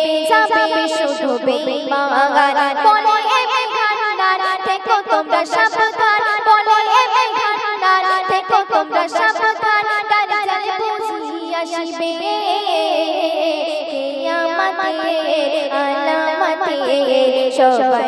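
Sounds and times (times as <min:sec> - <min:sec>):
girl singing devotional song: 0:00.0 - 0:18.0.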